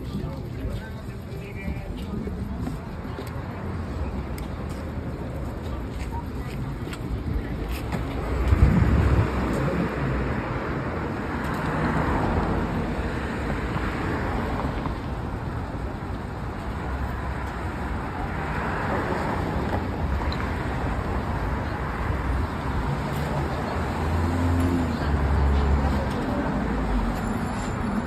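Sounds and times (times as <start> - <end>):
city street traffic: 0.0 - 28.0.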